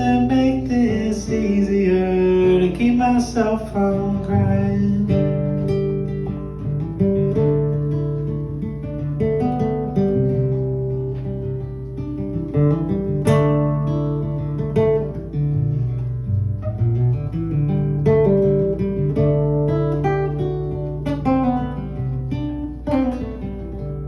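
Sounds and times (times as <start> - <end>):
acoustic guitar chords: 0.0 - 24.0.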